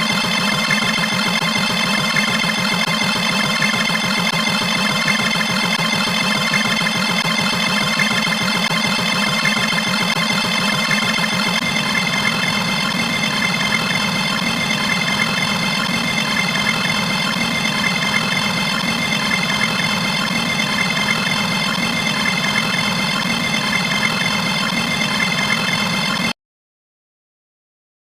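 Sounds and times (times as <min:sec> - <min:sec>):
loud drone like an idling engine: 0:00.0 - 0:26.4.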